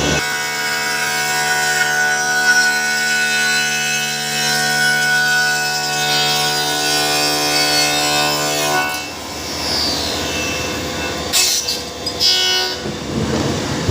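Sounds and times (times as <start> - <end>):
machine whine: 0.0 - 13.9.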